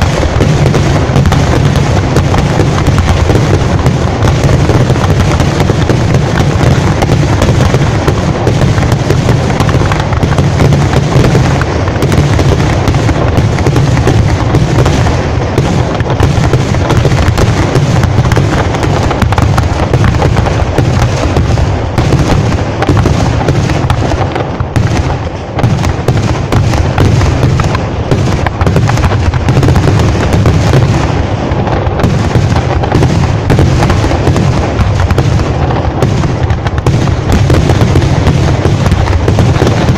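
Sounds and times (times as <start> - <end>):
fireworks loud bangs: 0.0 - 39.9.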